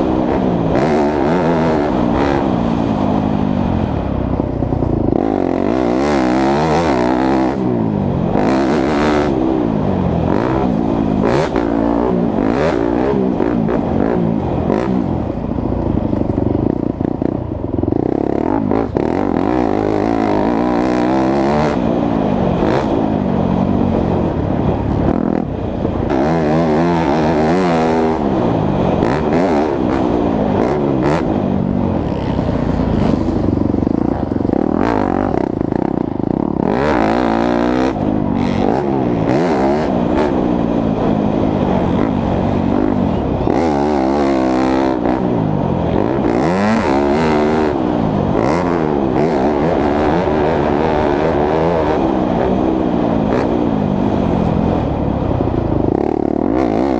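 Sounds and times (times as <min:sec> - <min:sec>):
dirt bike engine revving: 0:00.0 - 0:15.4, 0:16.0 - 0:54.8, 0:55.6 - 0:56.9.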